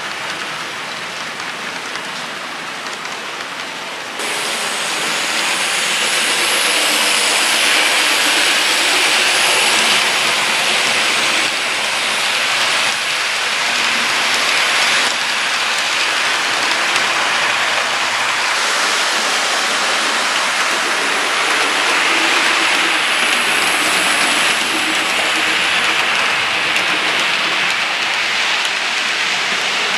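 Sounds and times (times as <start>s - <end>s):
model train running on track: 0.0s - 29.9s.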